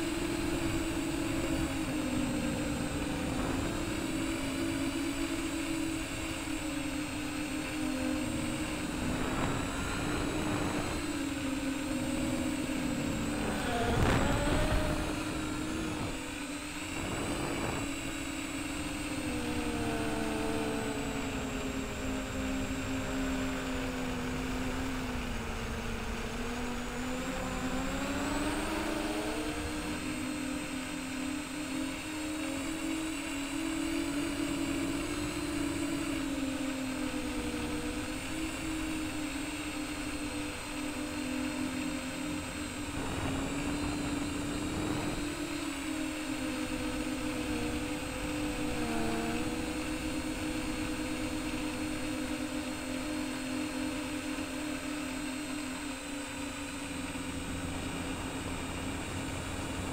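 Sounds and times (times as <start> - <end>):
quadcopter buzzing hum: 0.0 - 59.9.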